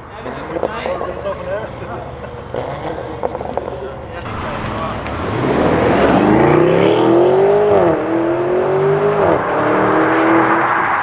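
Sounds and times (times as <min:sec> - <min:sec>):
sports car accelerating: 0:00.1 - 0:11.0.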